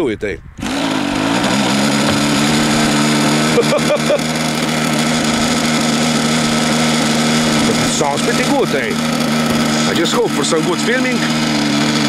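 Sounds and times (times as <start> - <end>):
model glow engine running: 0.7 - 12.0.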